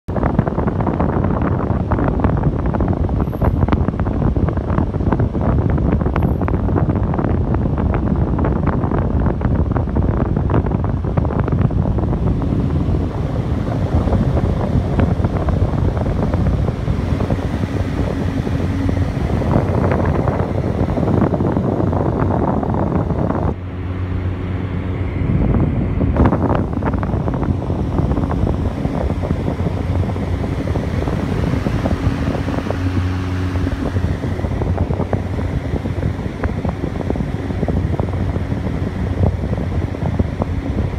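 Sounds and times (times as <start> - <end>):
exhaust fan air rush: 0.0 - 40.9
wind buffeting microphone: 0.1 - 40.9.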